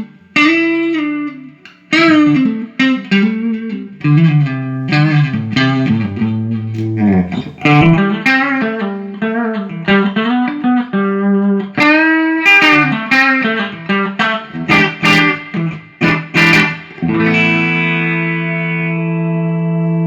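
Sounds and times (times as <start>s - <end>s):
electric guitar through amp: 0.0s - 20.0s.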